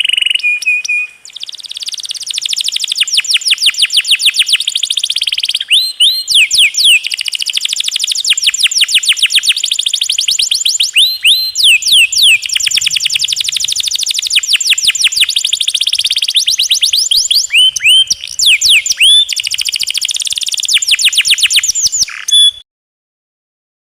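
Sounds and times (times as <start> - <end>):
canary singing: 0.0 - 22.6.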